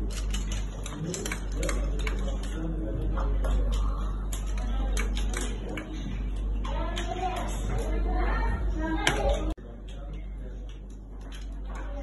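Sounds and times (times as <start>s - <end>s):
faint voices: 0.0s - 12.0s
steady low hum: 0.0s - 12.0s.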